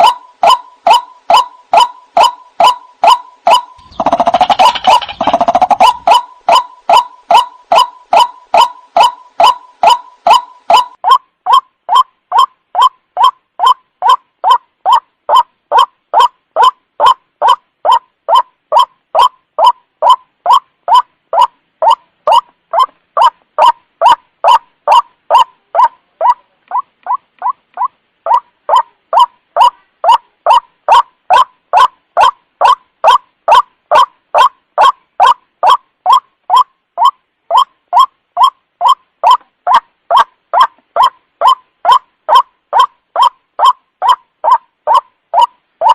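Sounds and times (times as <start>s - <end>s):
waterhen harsh call: 0.0s - 45.9s.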